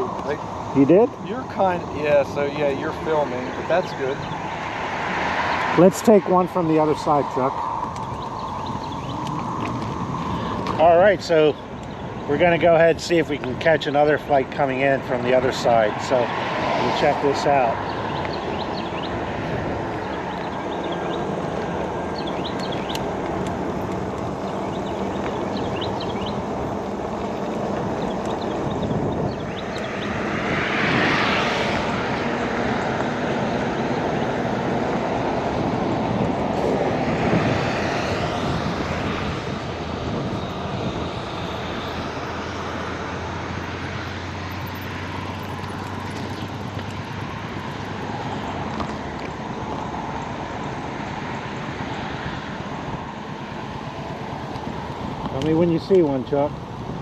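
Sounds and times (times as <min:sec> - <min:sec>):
jet aircraft rumble: 0:00.0 - 0:57.0
vehicles passing: 0:00.0 - 0:57.0.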